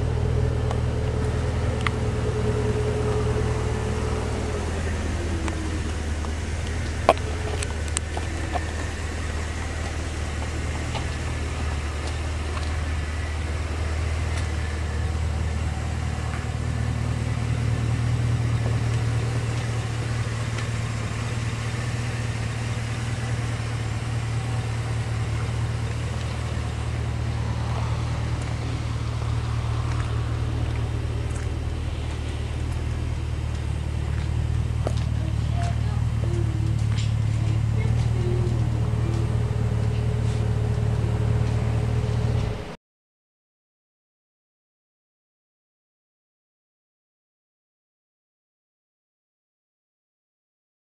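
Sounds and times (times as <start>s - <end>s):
car engine idling: 0.0s - 42.8s.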